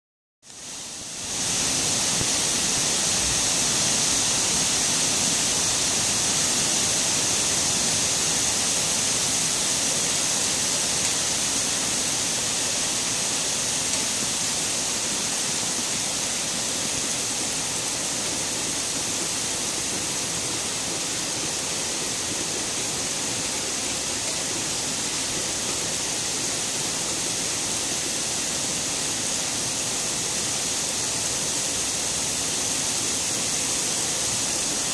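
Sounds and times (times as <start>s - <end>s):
heavy rain pouring: 0.5s - 34.9s.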